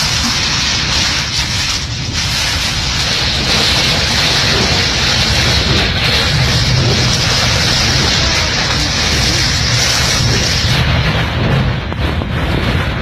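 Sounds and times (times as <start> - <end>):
deep rumble: 0.0 - 13.0
heavy rain and wind on vehicle: 0.0 - 13.0.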